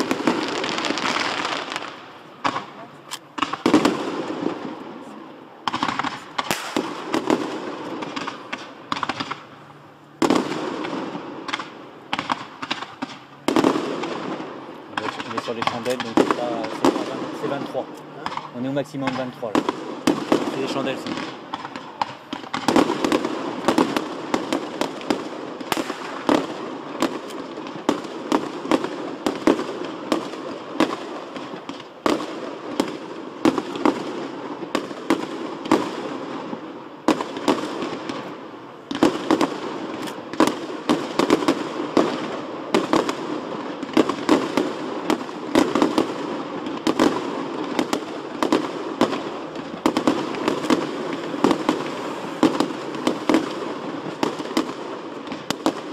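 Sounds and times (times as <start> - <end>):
fireworks bangs: 0.0 - 55.9
fireworks crackle and rumble: 0.0 - 55.9.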